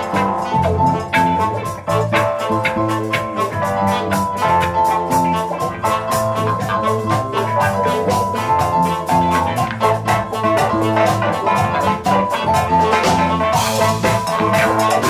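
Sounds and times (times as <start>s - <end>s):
bass line: 0.0s - 15.0s
drum kit steady beat: 0.0s - 15.0s
held melody notes: 0.0s - 15.0s.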